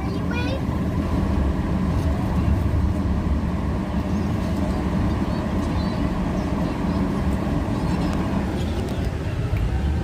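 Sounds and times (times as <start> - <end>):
freeway traffic rumble: 0.0 - 10.0.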